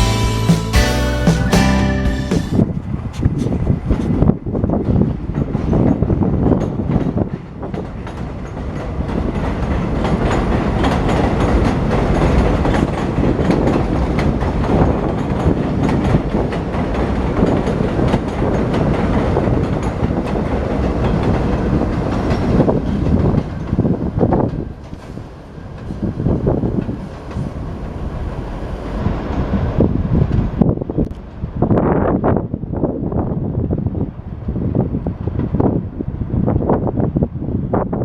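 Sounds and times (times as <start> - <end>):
subway train wheels clicking: 0.0 - 38.0.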